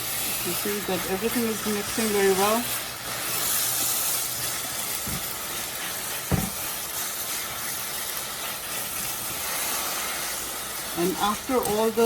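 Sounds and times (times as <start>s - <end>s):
food hissing in a pan: 0.0s - 12.0s.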